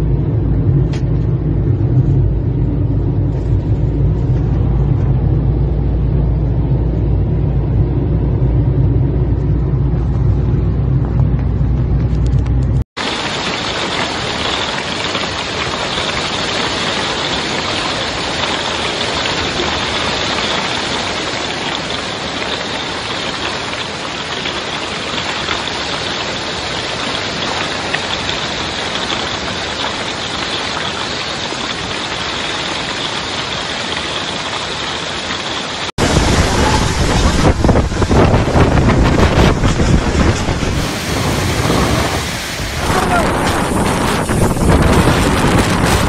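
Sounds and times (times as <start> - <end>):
torrential wind-driven rain: 0.0 - 46.0.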